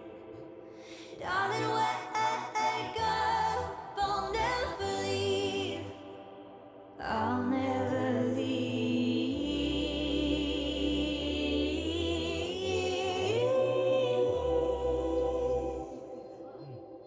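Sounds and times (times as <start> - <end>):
pop song with singer: 0.0 - 17.0.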